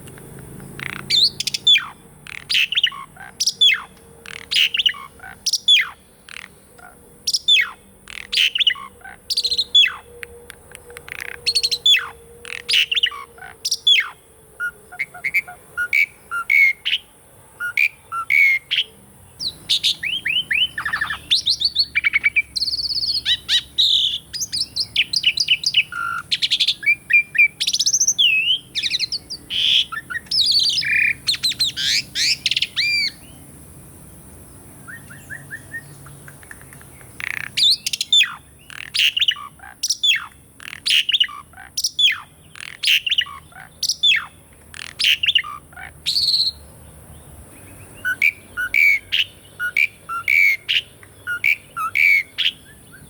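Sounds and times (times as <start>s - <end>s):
starling singing whistles and chatter: 0.0s - 33.4s, 34.8s - 46.7s, 47.7s - 53.0s.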